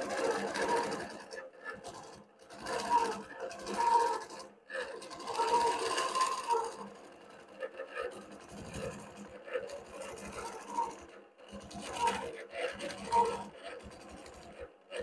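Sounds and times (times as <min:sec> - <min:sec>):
quilting machine stitching: 0:00.0 - 0:15.0.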